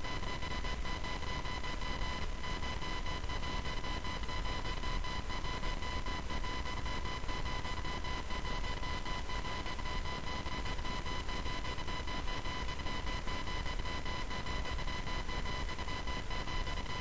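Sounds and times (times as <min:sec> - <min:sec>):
high electrical whine: 0:00.0 - 0:17.0.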